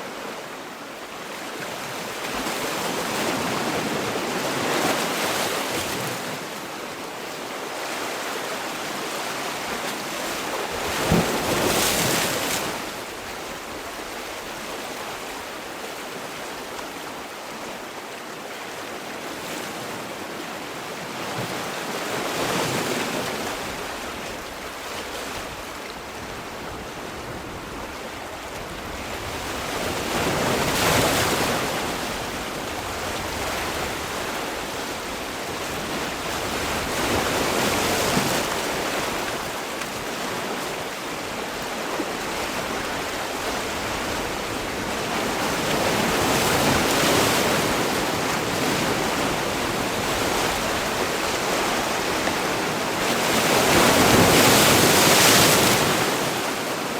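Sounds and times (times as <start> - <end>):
sea waves breaking on shore: 0.0 - 56.9.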